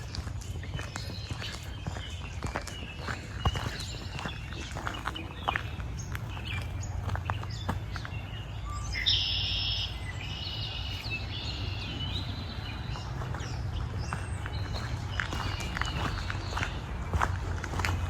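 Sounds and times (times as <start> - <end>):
songbirds singing: 0.0 - 18.0
steady low rumble: 0.0 - 18.0.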